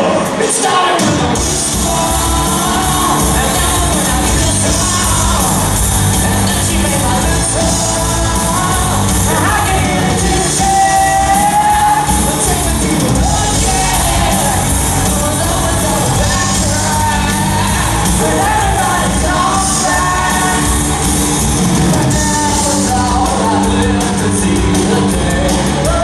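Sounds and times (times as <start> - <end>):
drum kit: 0.0 - 26.0
electric guitars: 0.0 - 26.0
bass guitar: 1.0 - 26.0.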